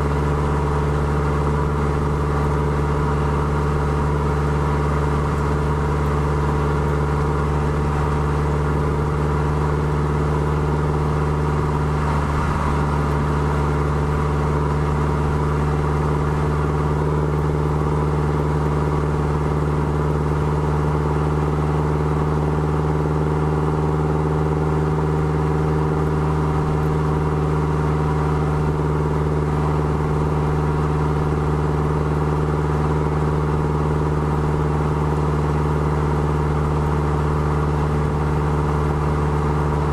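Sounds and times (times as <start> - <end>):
car exhaust idling: 0.0 - 39.9.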